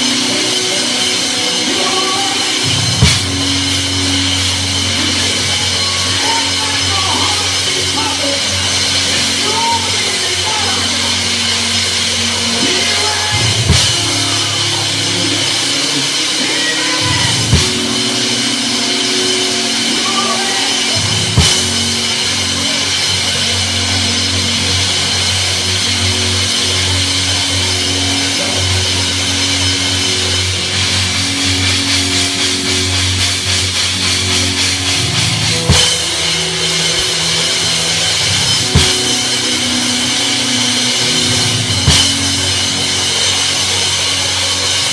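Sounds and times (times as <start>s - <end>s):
drum kit playing: 0.0s - 44.9s
gospel band music: 0.0s - 44.9s.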